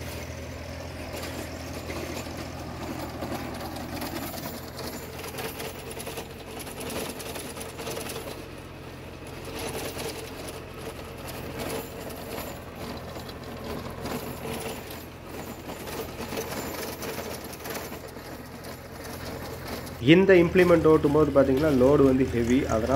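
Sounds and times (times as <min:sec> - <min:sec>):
rotary tiller rattling: 0:00.0 - 0:22.9
tractor diesel engine under load: 0:00.0 - 0:22.9.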